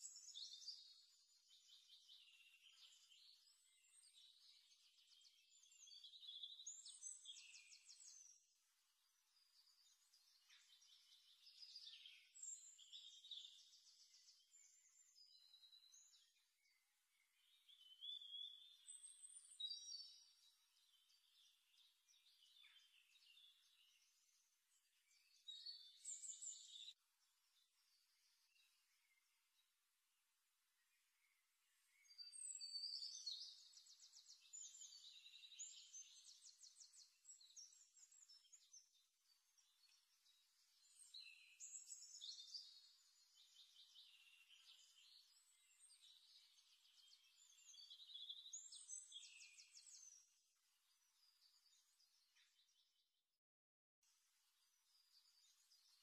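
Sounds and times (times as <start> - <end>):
faint birdsong: 0.0 - 53.4, 54.0 - 56.0.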